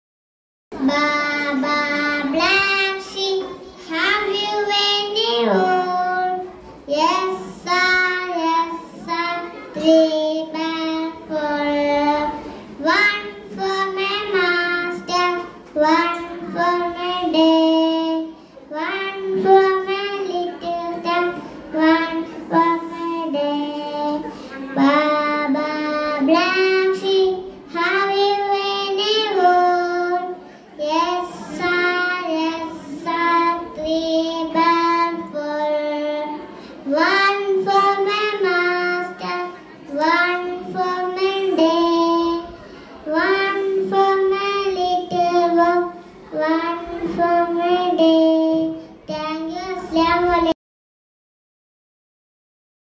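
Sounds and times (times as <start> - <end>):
girl singing into a microphone: 0.7 - 50.6.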